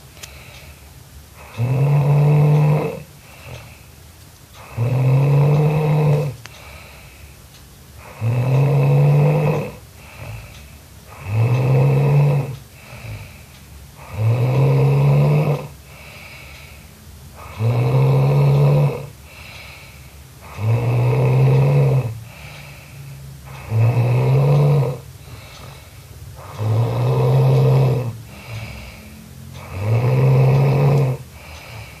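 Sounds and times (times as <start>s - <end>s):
quiet breaths: 0.0s - 32.0s
person snoring loudly: 1.4s - 3.8s, 4.6s - 6.9s, 8.0s - 10.5s, 11.1s - 13.4s, 14.0s - 16.8s, 17.4s - 32.0s.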